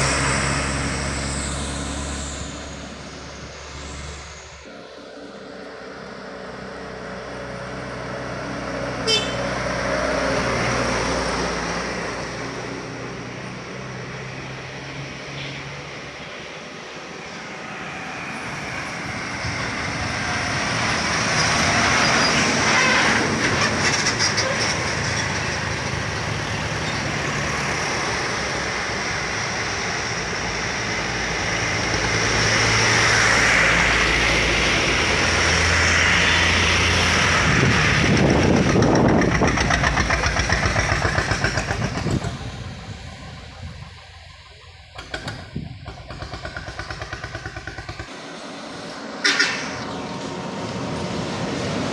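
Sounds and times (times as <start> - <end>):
diesel truck engines climbing: 0.0 - 51.9.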